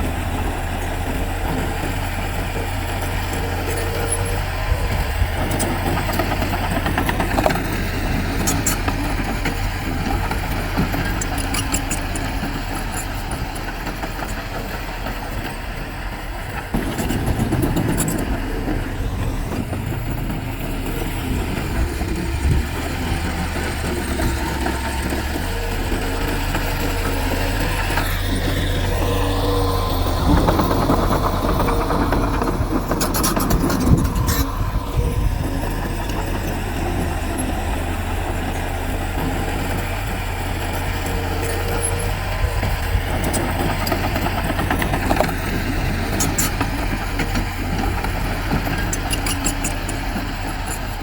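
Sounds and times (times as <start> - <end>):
heavy diesel machinery engine: 0.0 - 51.0.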